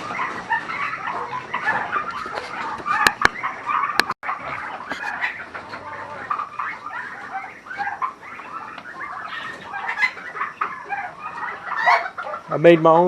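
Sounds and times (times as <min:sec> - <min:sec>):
poultry chirping and cheeping: 0:00.0 - 0:13.0.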